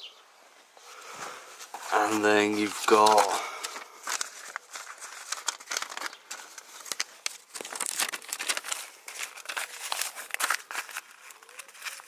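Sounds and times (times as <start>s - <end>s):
wires crinkling and rustling: 1.0s - 12.0s.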